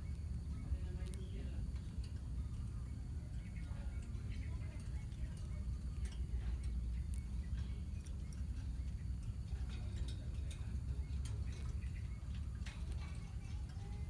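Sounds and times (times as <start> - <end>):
lovebirds chirping and clicking: 0.1 - 14.0.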